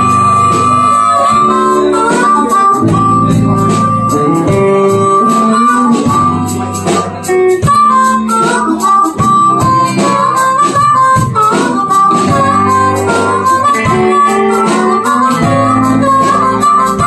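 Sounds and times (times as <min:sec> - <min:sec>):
blues-rock band playing: 0:00.0 - 0:17.0
harmonica wailing melody: 0:00.0 - 0:17.0.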